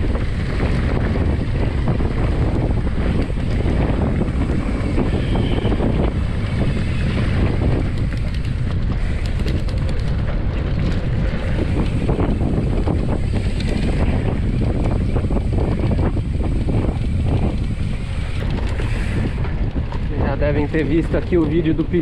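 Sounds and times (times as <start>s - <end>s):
bike clicks and rattles: 0.0s - 22.0s
tyres on dirt trail: 0.0s - 22.0s
wind buffeting microphone: 0.0s - 22.0s.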